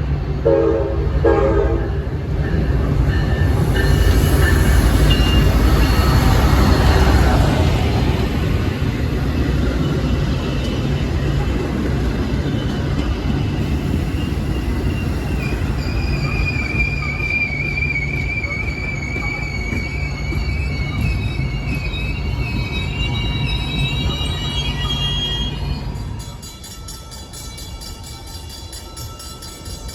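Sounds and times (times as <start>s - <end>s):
train rumbling on tracks: 0.0s - 29.9s
wheels squealing against rail: 2.4s - 29.9s.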